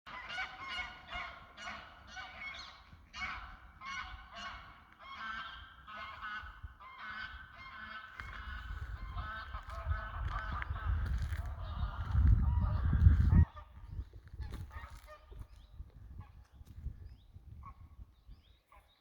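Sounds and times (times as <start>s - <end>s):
geese honking: 0.1s - 15.6s.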